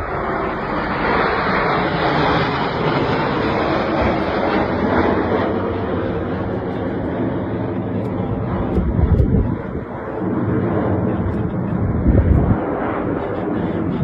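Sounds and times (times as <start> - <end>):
aircraft flying by: 0.0 - 14.0.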